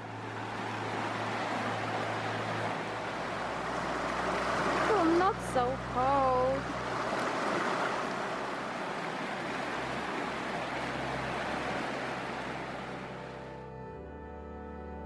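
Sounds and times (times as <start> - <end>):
fast-flowing water rushing: 0.0 - 13.5.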